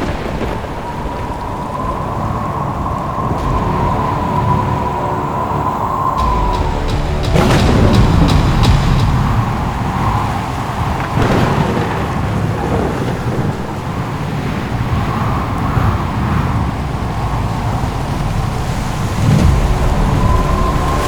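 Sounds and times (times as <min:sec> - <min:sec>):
waves crashing: 0:00.0 - 0:21.0
wind: 0:00.0 - 0:21.0.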